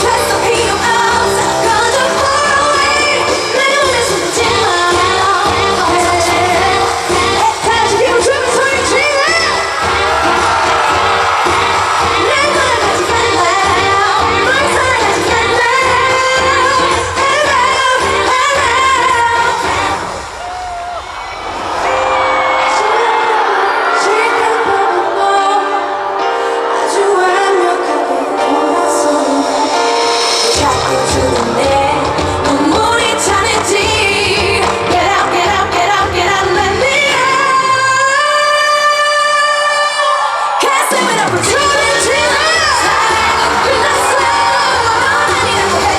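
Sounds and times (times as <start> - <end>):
woman singing: 0.0 - 20.1, 21.9 - 45.9
band accompaniment: 0.0 - 38.2, 40.9 - 45.9.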